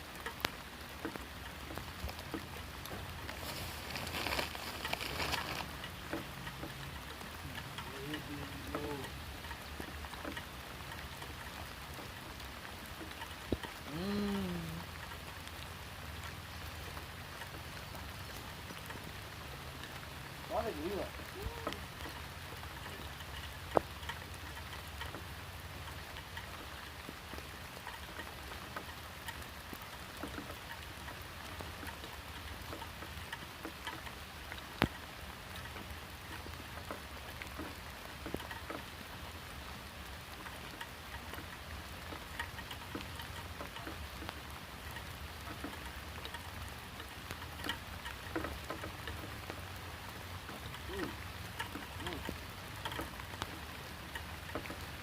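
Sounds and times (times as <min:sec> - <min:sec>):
rain falling: 0:00.0 - 0:55.0
raindrop ticks: 0:00.0 - 0:55.0.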